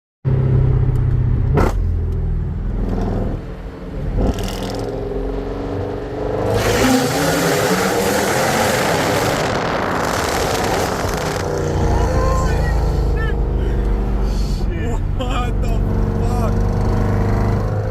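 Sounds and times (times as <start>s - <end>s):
car engine revving: 0.3s - 17.9s.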